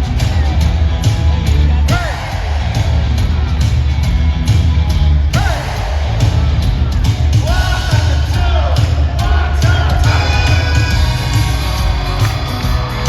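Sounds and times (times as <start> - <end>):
crowd yelling and whooping: 0.0 - 13.0
live rock band playing: 0.0 - 13.0
pounding drum beat: 0.0 - 13.0.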